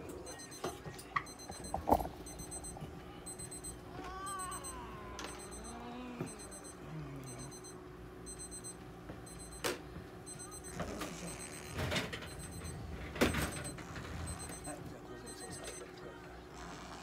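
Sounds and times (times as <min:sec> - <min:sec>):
electronic alarm beeping: 0:00.3 - 0:15.9.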